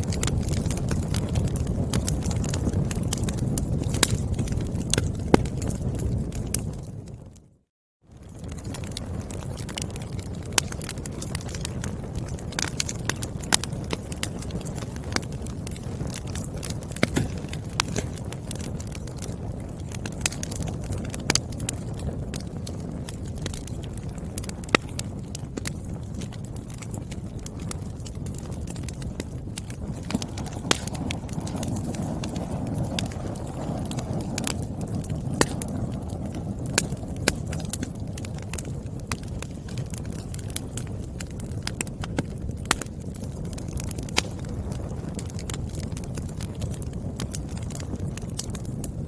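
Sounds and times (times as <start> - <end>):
firewood crackling: 0.0 - 49.0
low rumble of flames: 0.0 - 49.0.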